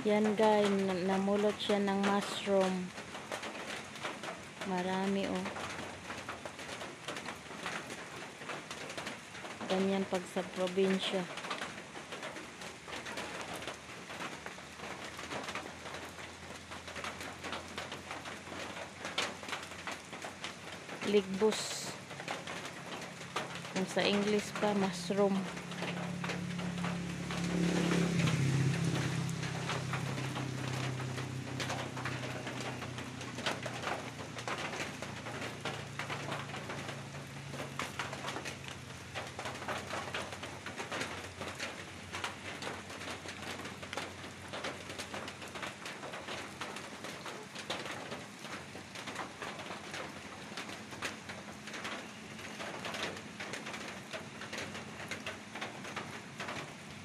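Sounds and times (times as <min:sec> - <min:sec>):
rain on leaves and ground: 0:00.0 - 0:57.0.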